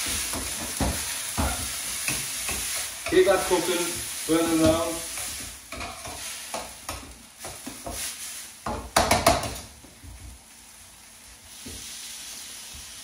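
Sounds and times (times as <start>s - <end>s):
curry sizzling: 0.0s - 13.0s.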